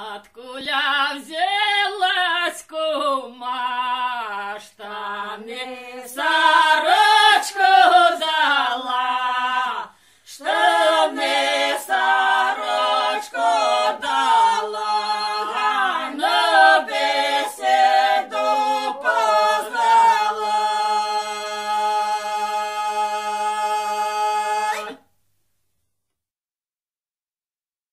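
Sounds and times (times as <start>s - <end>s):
women singing a cappella: 0.0s - 25.0s.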